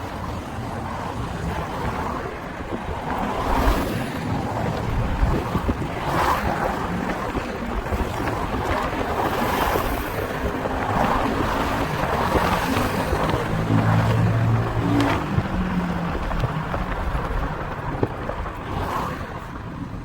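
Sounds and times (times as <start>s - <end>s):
street traffic: 0.0s - 20.0s
nearby vehicle engine hum: 1.9s - 20.0s.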